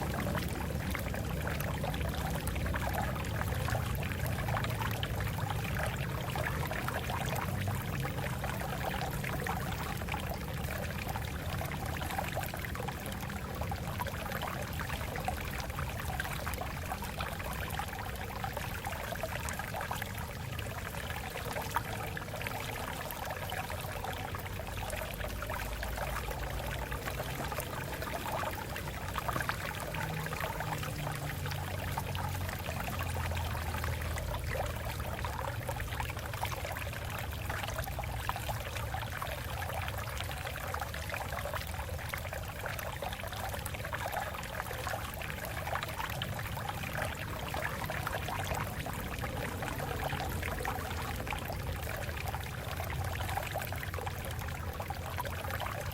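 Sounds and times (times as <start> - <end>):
stream water over rocks: 0.0 - 55.9.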